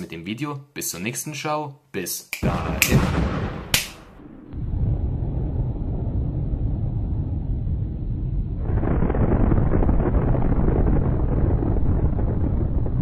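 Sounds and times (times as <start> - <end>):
nuclear explosion rumble: 2.4 - 13.0.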